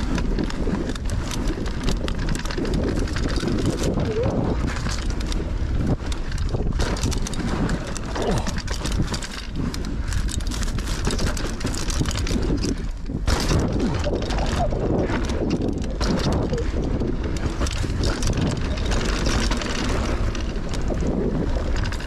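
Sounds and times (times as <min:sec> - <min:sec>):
bike rattling and knocking: 0:00.0 - 0:22.0
tyres rolling on dry dirt: 0:00.0 - 0:22.0
wind buffeting microphone: 0:00.0 - 0:22.0.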